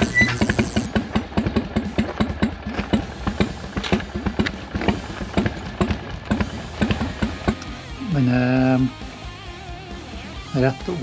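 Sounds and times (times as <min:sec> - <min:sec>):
motorcycle engine idling: 0:00.0 - 0:10.5.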